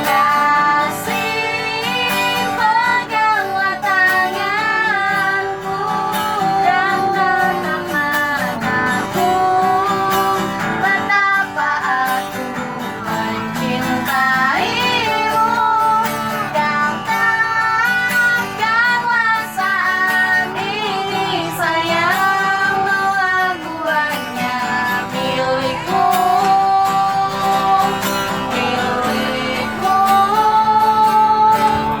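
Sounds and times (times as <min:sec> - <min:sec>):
person singing in a high voice: 0:00.0 - 0:32.0
strummed guitar: 0:00.0 - 0:32.0.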